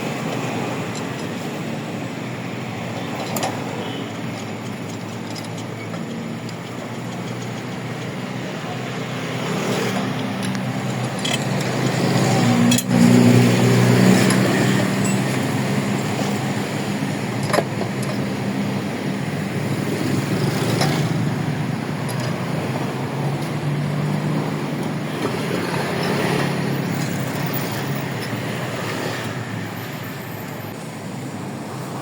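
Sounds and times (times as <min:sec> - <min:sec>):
road traffic rushing: 0:00.0 - 0:32.0.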